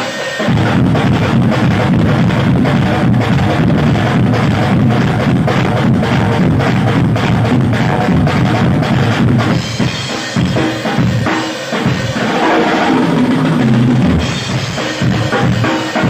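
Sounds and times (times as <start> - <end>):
cymbals: 0.0 - 16.0
snare drum: 0.0 - 16.0
bass drum: 0.5 - 11.1, 11.9 - 15.7.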